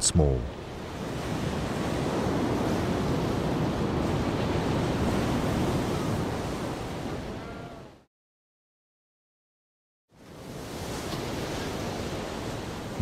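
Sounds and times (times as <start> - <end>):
heavy surf breaking on rocks: 0.2 - 8.0, 10.3 - 13.0.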